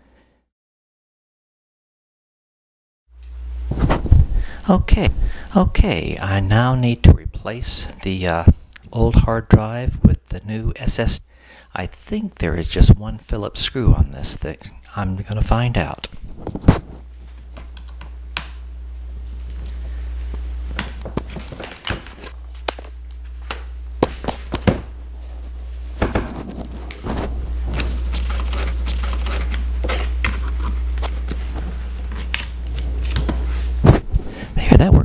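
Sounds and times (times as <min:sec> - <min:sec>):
steady low hum: 0:03.2 - 0:35.0.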